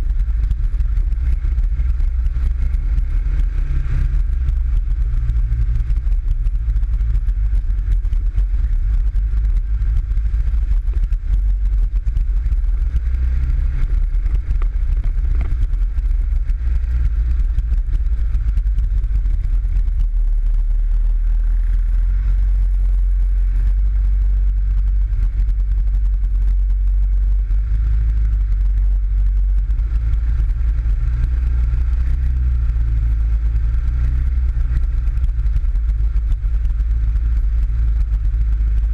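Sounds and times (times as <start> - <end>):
buggy engine droning: 0.0 - 38.9.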